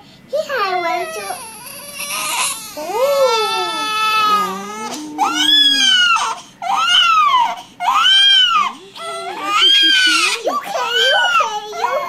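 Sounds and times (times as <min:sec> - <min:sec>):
newborn baby crying: 0:00.9 - 0:12.0.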